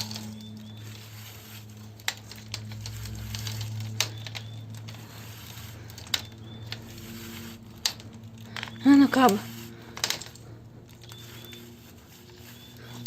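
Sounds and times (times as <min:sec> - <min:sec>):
steady low hum: 0:00.0 - 0:13.0
wire rustling and scraping: 0:00.0 - 0:13.0.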